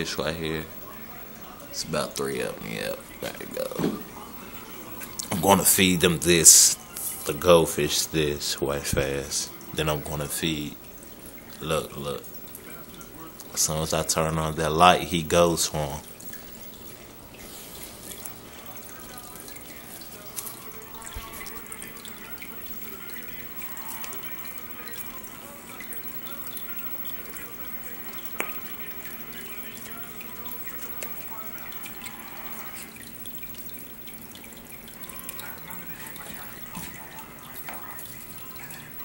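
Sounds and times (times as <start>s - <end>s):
aquarium water bubbling: 0.0s - 39.0s.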